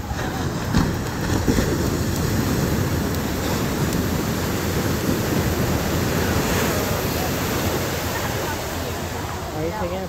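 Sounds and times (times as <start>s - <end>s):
ocean surf breaking on beach: 0.0s - 10.0s
wind rumbling on microphone: 0.0s - 10.0s.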